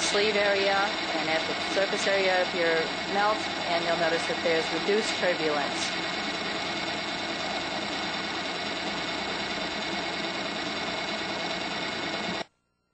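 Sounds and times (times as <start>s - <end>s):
rotary machine running steadily: 0.0s - 12.5s.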